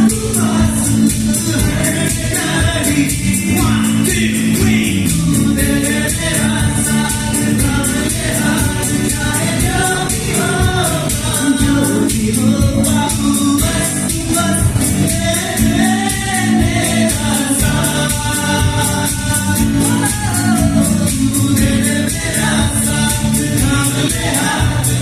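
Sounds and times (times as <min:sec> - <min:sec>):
live band playing: 0:00.0 - 0:25.0
steady cymbal beat: 0:00.0 - 0:25.0.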